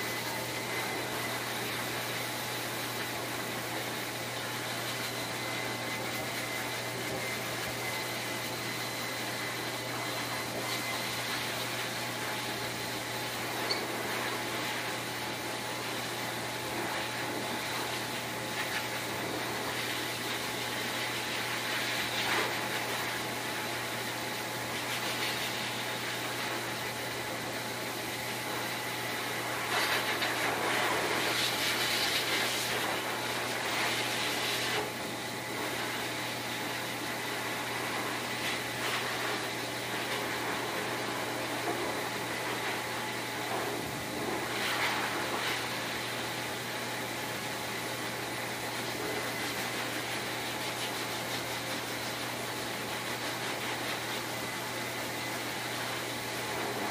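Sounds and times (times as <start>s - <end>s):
blower dryer rushing air: 0.0s - 56.9s.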